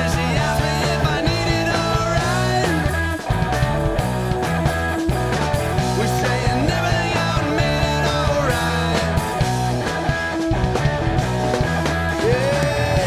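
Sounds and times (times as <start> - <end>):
electric guitar: 0.0 - 13.0
steady drum beat: 0.0 - 13.0.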